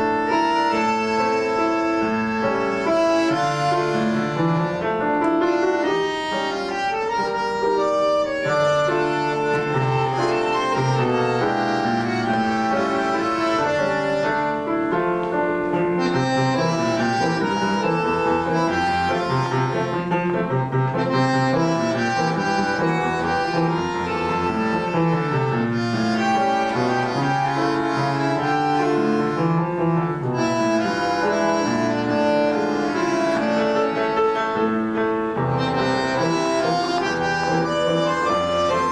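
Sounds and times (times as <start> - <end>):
bandoneons and piano playing tango: 0.0 - 38.9.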